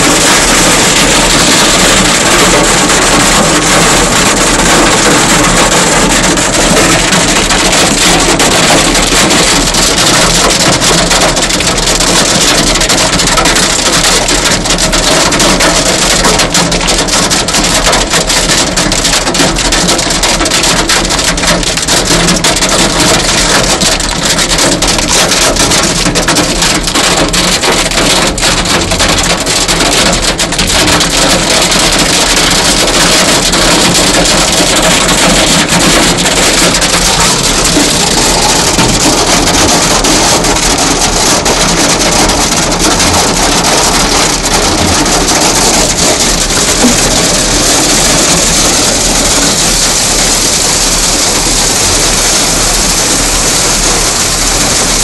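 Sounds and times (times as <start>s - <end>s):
hail pelting a car roof: 0.0s - 55.0s.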